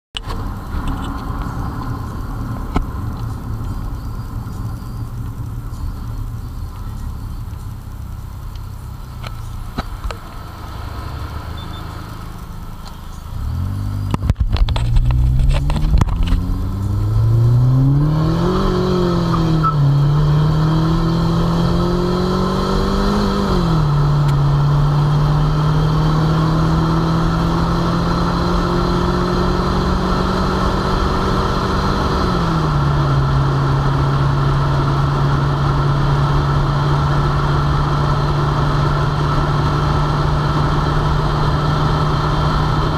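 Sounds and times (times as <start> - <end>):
car engine accelerating hard: 0.2 - 42.9.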